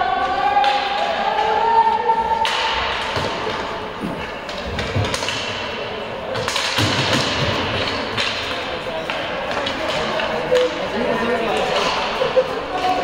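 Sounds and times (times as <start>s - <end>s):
voices in echoing hall: 0.0s - 13.0s.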